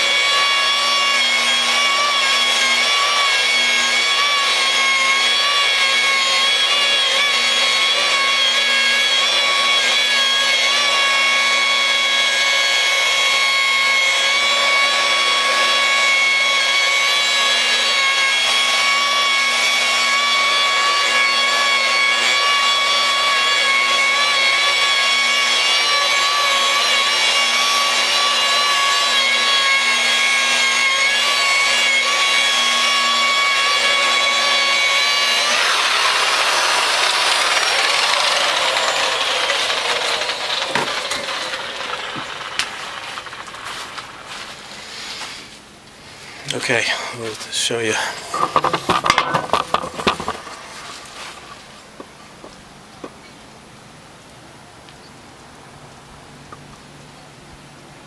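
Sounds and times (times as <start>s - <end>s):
glass polisher motor whine: 0.0s - 52.4s.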